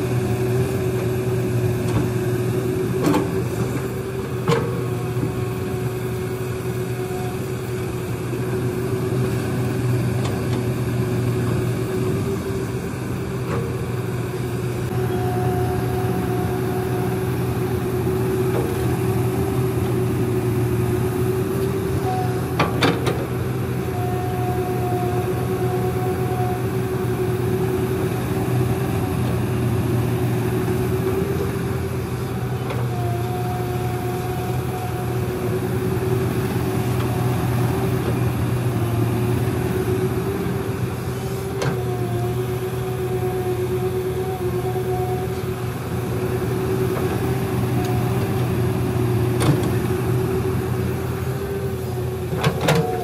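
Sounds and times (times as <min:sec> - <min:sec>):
excavator running: 0:00.0 - 0:53.0
hydraulic whine: 0:00.0 - 0:53.0.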